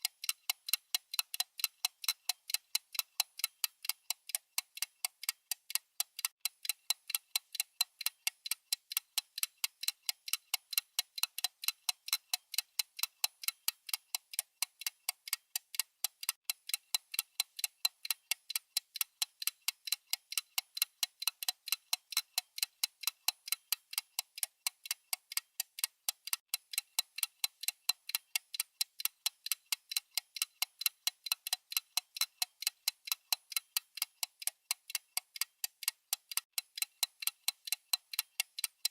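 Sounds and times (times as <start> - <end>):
mechanical watch ticking: 0.0 - 38.9.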